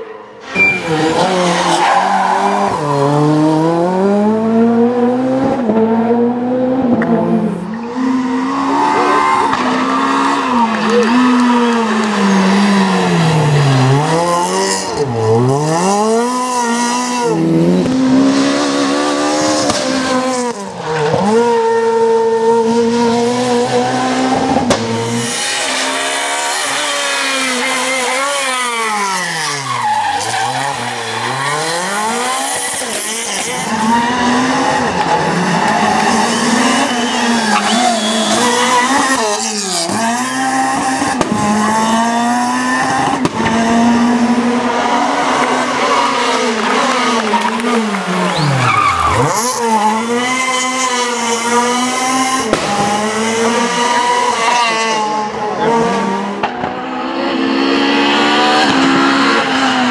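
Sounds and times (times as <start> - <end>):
rally car engines at full throttle: 0.0 - 59.9.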